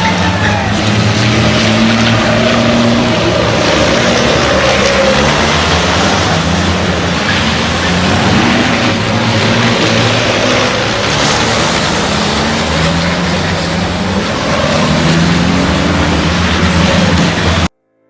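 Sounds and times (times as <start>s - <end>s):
large vehicle engine revving: 0.0s - 17.7s.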